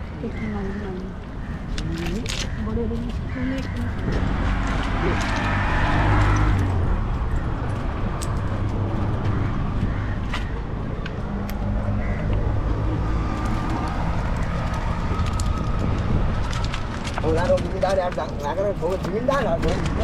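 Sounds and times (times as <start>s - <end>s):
boat engine humming: 0.0s - 19.7s.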